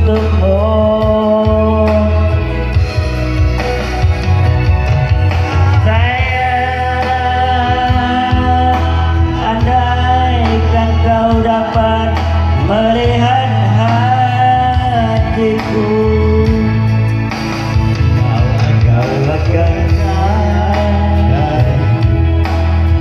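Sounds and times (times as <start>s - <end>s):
keyboard music with heavy bass: 0.0s - 23.0s
sliding lead melody: 0.0s - 23.0s.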